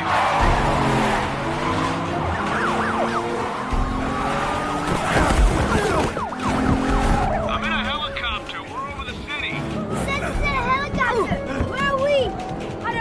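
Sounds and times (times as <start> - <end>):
car noise: 0.0 - 13.0
police sirens wailing: 0.0 - 13.0.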